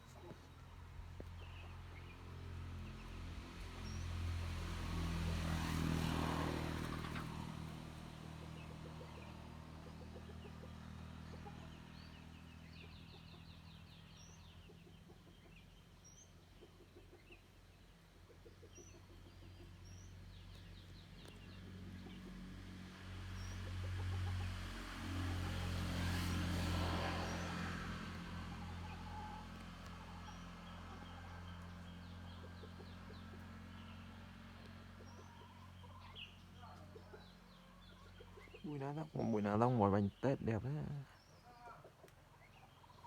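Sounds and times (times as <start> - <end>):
small birds chirping: 0.0 - 4.6, 6.8 - 24.4, 26.1 - 43.0
motor vehicle passing: 0.0 - 43.0.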